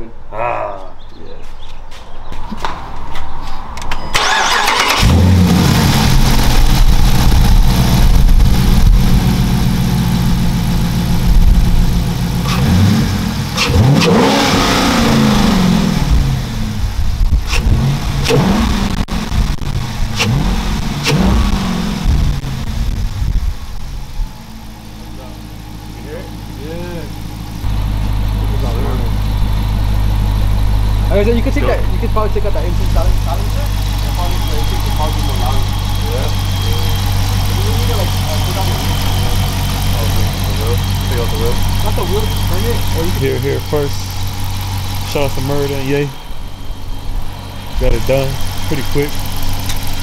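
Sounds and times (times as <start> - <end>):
car engine starting and revving: 4.1 - 50.0.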